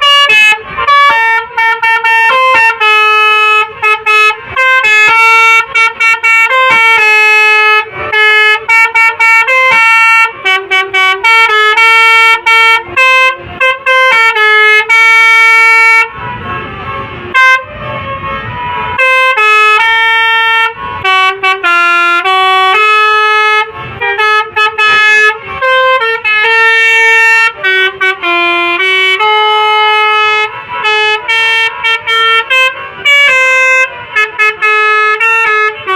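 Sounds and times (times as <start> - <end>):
multi-tone musical bus horn: 0.0 - 35.9.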